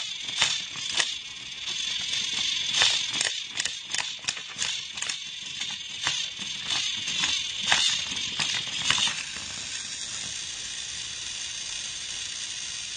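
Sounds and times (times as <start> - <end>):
toy trains clicking and rattling: 0.0 - 12.9.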